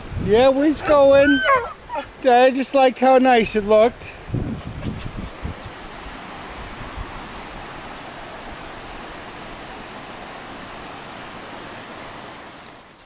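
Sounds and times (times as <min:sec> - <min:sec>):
stream pouring over cascades: 0:00.0 - 0:13.0.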